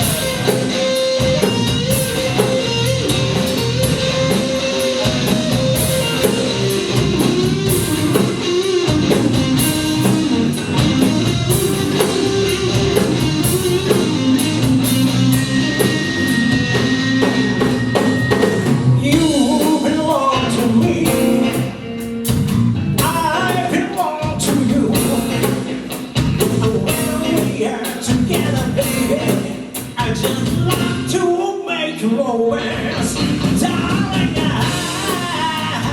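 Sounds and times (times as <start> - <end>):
drum kit: 0.0 - 31.2, 32.6 - 35.9
electric guitar: 0.0 - 31.2, 32.5 - 35.9.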